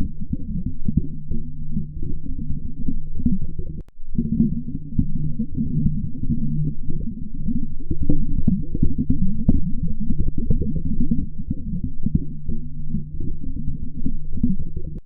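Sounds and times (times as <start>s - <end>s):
muffled bubbling low rumble: 0.0s - 15.0s
steady low hum: 0.0s - 15.0s.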